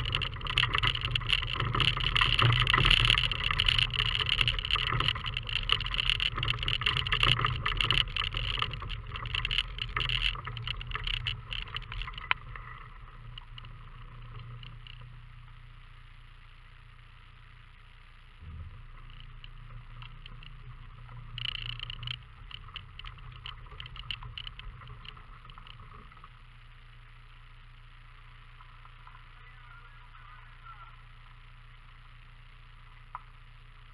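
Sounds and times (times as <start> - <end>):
car engine hum: 0.0 - 33.9.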